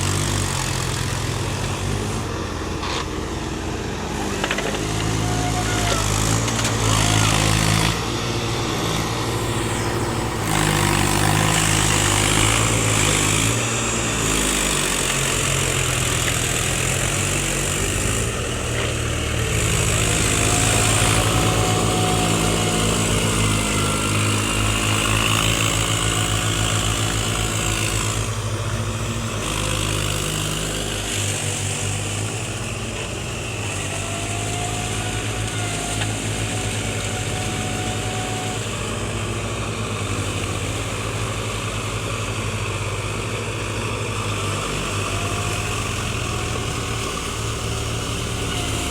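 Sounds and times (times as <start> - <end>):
tractor engines running: 0.0 - 48.9.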